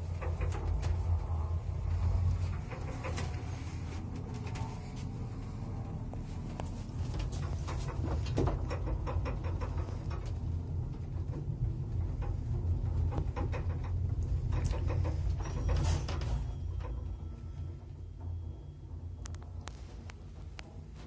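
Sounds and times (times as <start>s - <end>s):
elevator car rattling and clicking: 0.0s - 21.0s
elevator low rumble: 0.0s - 21.0s.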